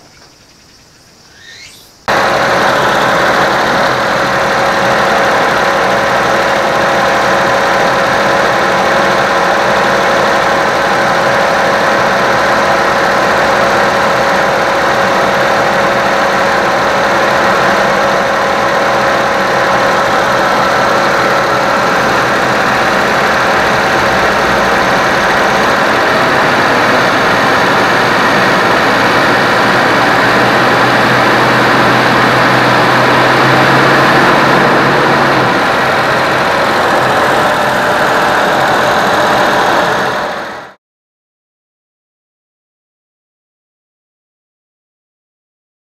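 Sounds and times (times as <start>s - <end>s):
small car engine running: 1.4s - 40.8s.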